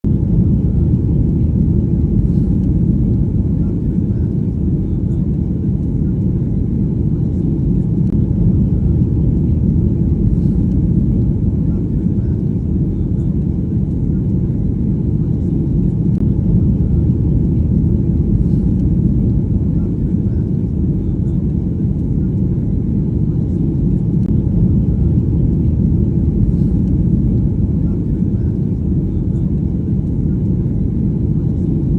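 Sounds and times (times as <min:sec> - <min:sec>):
airplane cabin rumble: 0:00.0 - 0:31.9.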